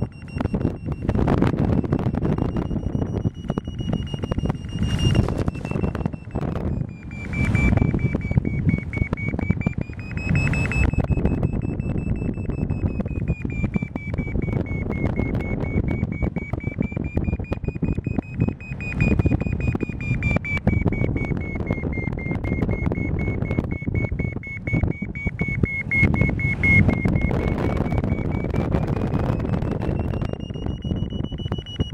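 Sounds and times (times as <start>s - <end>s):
variometer high electronic beep: 0.0s - 31.9s
wind buffeting microphone: 0.0s - 31.9s.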